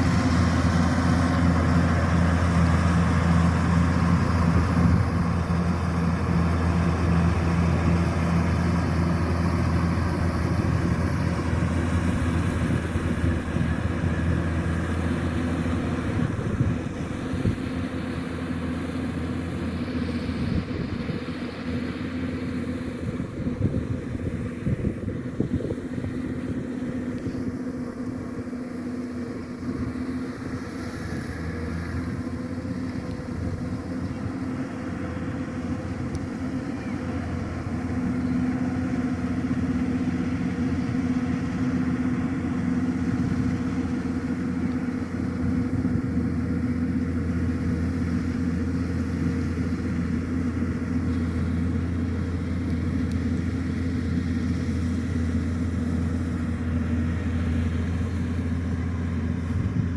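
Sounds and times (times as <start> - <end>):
combine harvester engine hum: 0.0 - 59.9.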